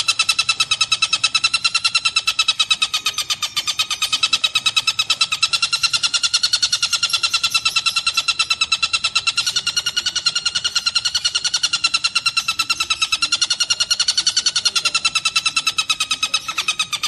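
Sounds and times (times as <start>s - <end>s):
kingfisher rattling call: 0.0s - 17.0s.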